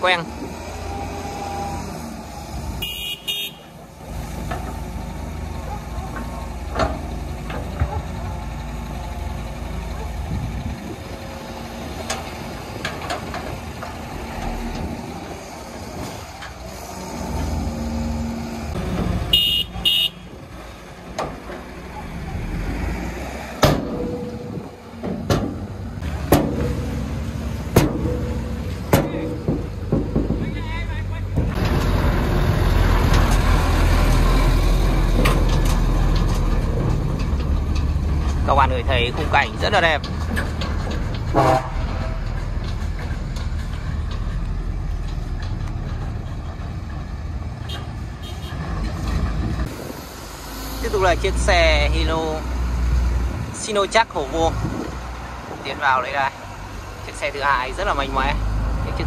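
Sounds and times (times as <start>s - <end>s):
diesel truck engine rumble: 0.0s - 59.0s.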